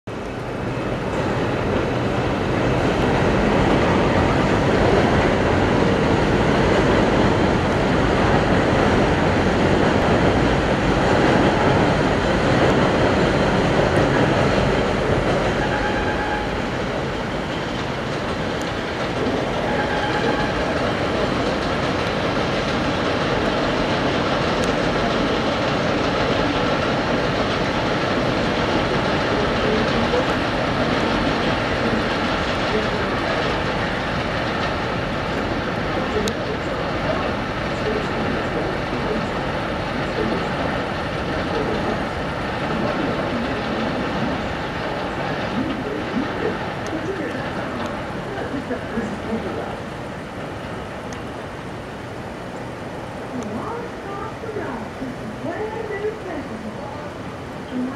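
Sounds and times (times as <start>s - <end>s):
subway train rumble and rattle: 0.1s - 57.9s.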